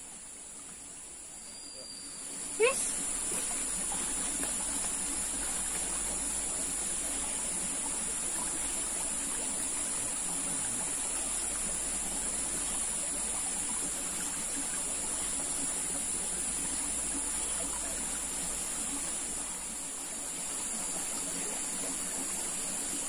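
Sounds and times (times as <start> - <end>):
steady high-pitched hiss: 0.0 - 23.0
stream trickling over rocks: 0.0 - 23.0.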